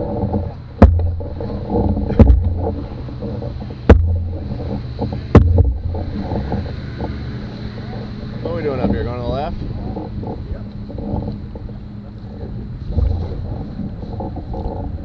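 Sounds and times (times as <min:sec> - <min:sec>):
low rumble of moving canoe: 0:00.0 - 0:15.0
paddle knocking against canoe hull: 0:00.0 - 0:15.0.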